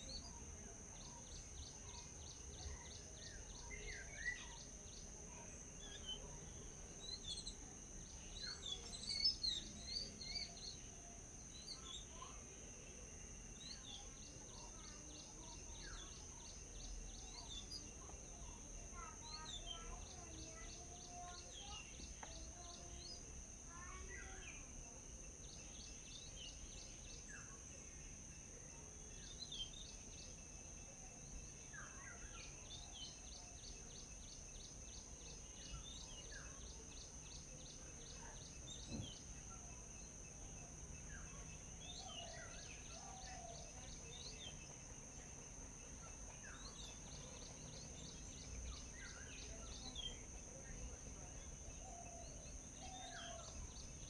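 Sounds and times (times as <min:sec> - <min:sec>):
faint birdsong: 0:00.0 - 0:54.0.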